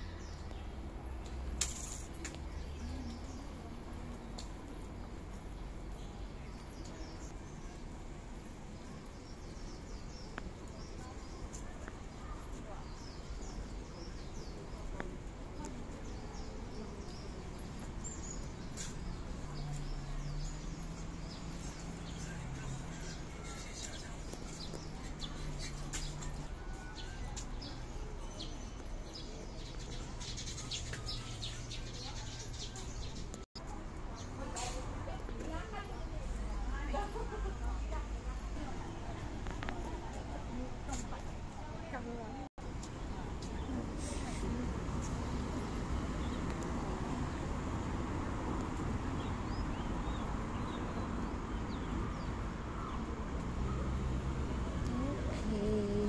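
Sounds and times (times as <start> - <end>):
city traffic rumble: 0.0 - 56.0
small birds chirping: 0.0 - 56.0.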